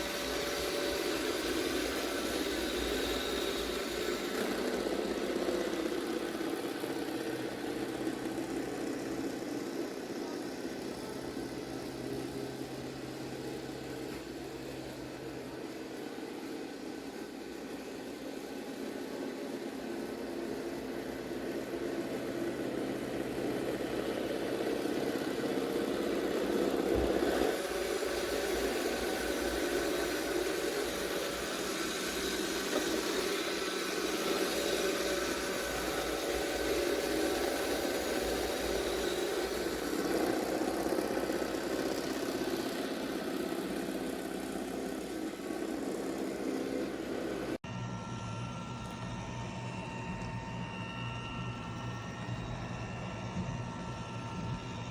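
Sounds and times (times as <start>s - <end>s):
robot vacuum motor whir: 0.0s - 54.9s.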